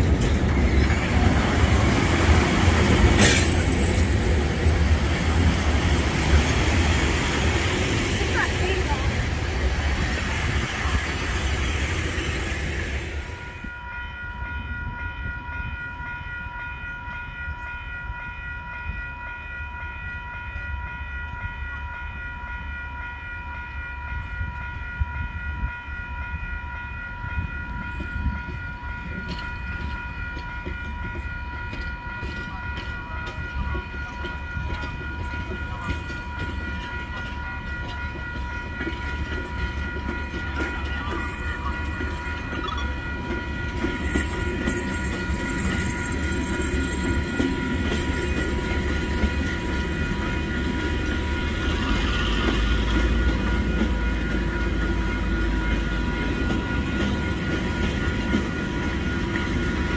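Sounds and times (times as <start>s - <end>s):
train wheels rolling past: 0.0s - 19.1s, 24.2s - 59.9s
low train rumble: 0.0s - 59.9s.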